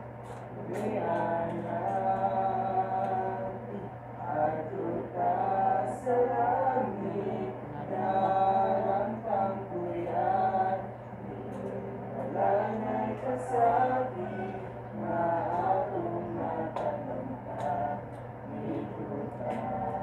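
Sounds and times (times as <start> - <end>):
steady low hum: 0.0 - 20.0
young men singing together: 0.6 - 20.0.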